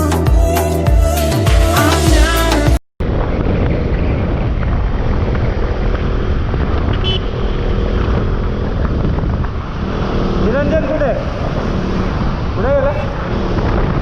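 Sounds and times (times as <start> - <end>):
motorcycle engine riding: 1.6 - 14.0.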